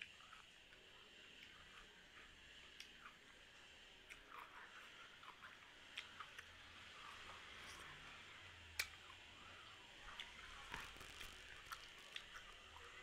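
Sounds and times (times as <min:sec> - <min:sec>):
fingers mixing rice wet squishes: 0:00.0 - 0:13.0.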